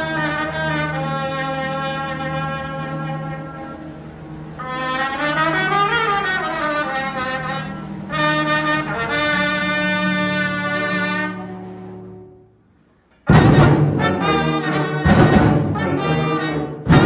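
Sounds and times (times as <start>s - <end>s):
brass band low chords: 0.0s - 17.0s
solo trumpet melody: 0.0s - 17.0s.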